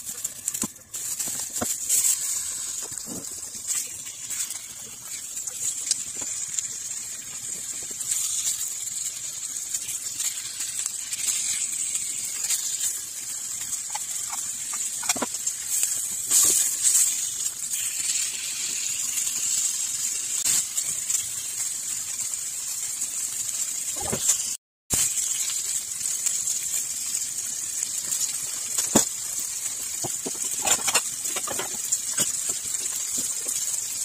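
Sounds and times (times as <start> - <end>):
chicken sizzling in frying pan: 0.0 - 34.0
crackles and clicks: 0.0 - 34.0.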